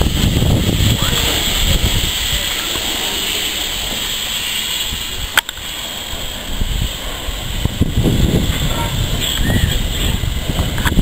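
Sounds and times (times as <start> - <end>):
steam locomotive hissing and rumbling: 0.0 - 11.0.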